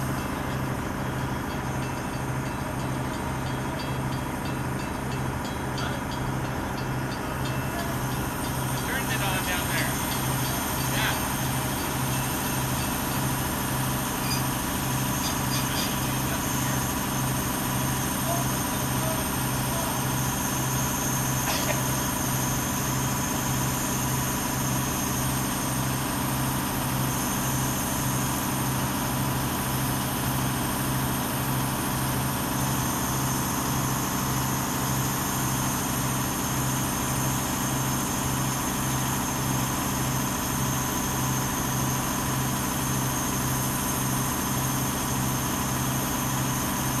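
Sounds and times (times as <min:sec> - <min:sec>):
machine engine idling: 0:00.0 - 0:47.0.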